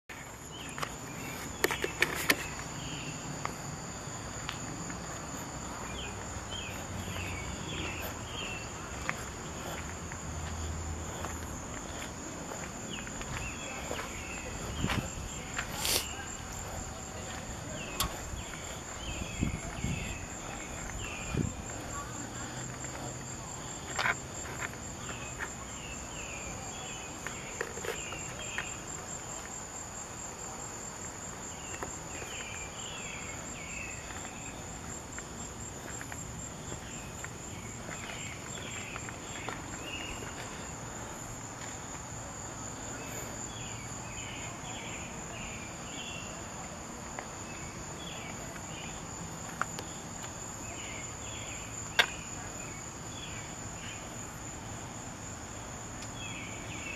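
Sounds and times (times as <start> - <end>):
insect chirps: 0.1 - 56.9
insects trilling: 0.1 - 56.9.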